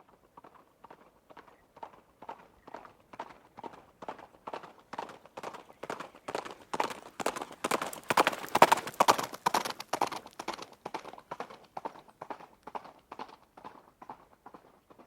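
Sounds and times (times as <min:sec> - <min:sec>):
galloping horse hoofbeats: 0:00.0 - 0:15.0.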